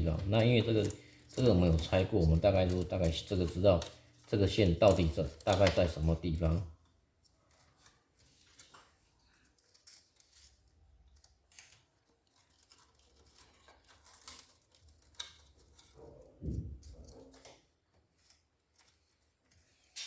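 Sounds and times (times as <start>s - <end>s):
hands handling wiring and plastic: 0.0s - 20.0s.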